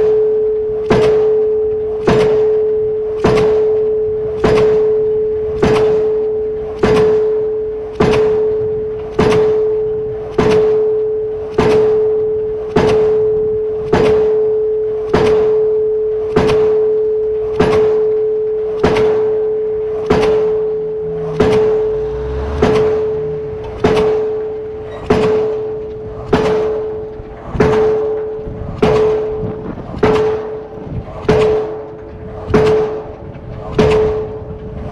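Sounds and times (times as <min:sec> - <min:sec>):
steady ringing tone: 0:00.0 - 0:33.3
pile hammer striking steel: 0:00.0 - 0:34.9.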